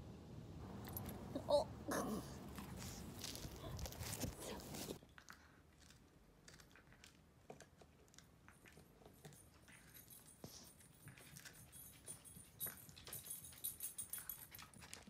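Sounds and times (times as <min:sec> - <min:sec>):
puppy nibbling on wooden floor: 0:02.5 - 0:15.0.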